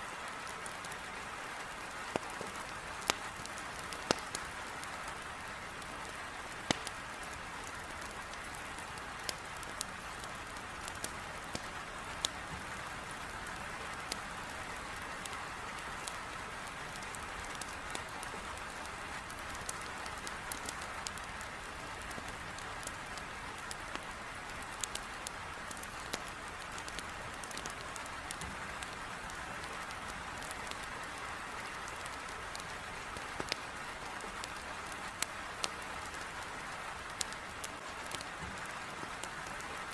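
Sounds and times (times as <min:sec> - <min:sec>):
heavy rain against a window: 0:00.0 - 0:39.9
firewood crackling: 0:00.3 - 0:39.9.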